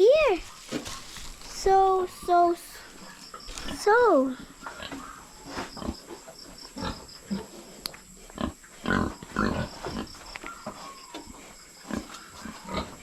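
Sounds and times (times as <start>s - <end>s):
pigs grunting: 0.4s - 13.0s.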